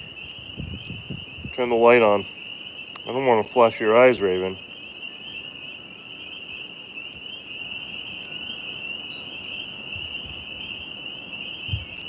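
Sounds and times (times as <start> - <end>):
low rumble of wind: 0.0 - 4.6, 5.3 - 12.0
cricket chorus: 0.0 - 12.0.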